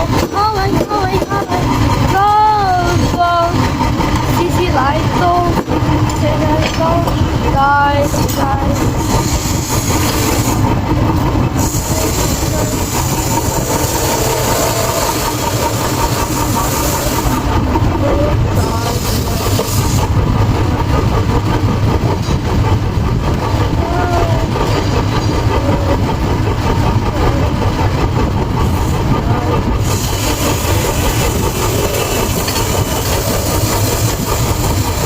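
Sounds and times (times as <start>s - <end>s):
heavy machinery low rumble: 0.0s - 35.0s.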